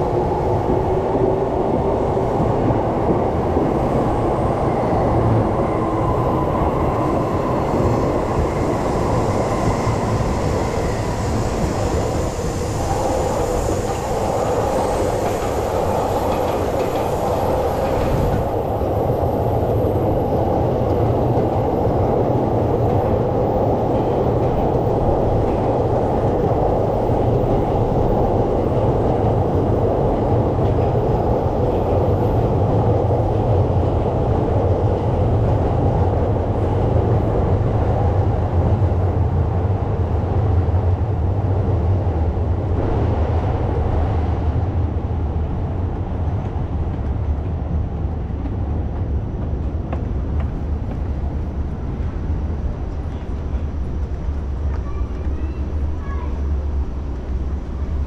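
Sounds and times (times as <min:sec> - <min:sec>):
train rumbling on tracks: 0:00.0 - 0:58.0.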